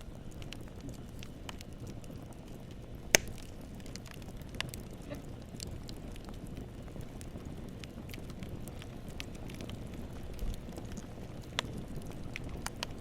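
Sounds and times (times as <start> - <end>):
campfire rumble: 0.0 - 13.0
fire crackles and pops: 0.0 - 13.0.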